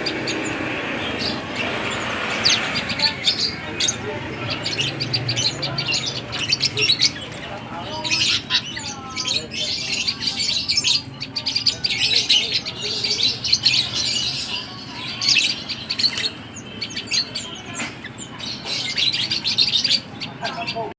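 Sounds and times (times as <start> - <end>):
songbirds chirping and twittering: 0.0 - 20.9.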